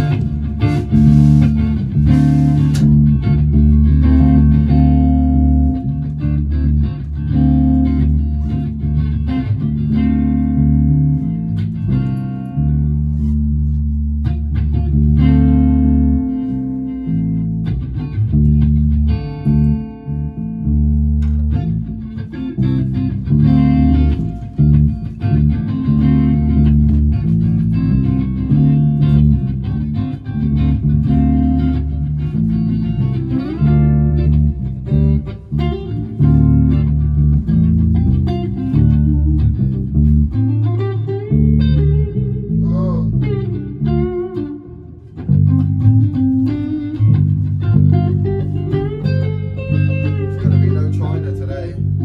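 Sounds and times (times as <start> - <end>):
bass guitar: 0.0 - 52.0
electric guitar chords: 0.0 - 52.0.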